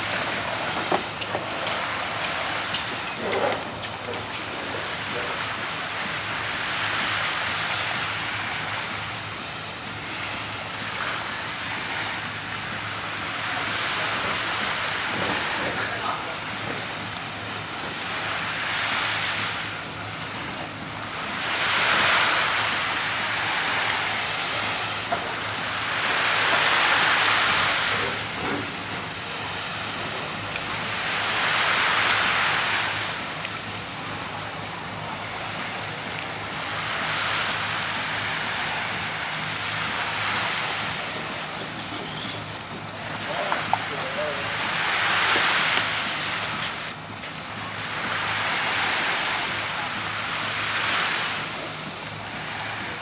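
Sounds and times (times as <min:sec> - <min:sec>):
sea waves washing in: 0:00.0 - 0:53.0.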